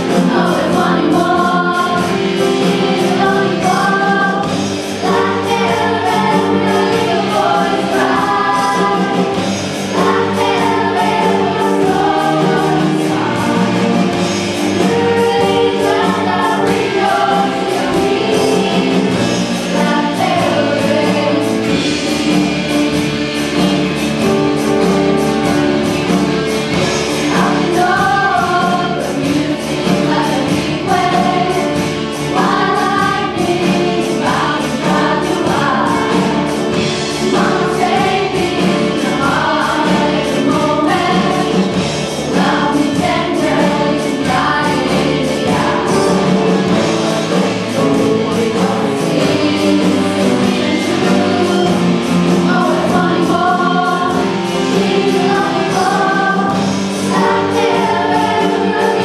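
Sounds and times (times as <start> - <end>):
voices singing: 0.0 - 59.0.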